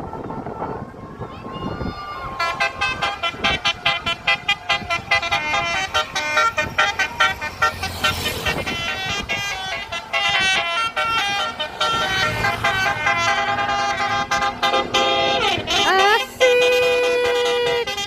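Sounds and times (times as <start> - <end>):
bus horn playing a tune: 1.7 - 18.0.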